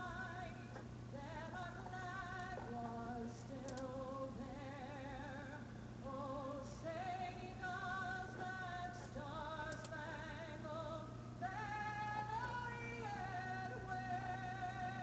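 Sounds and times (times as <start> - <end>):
person singing: 0.0 - 15.0
quiet background music: 0.0 - 15.0.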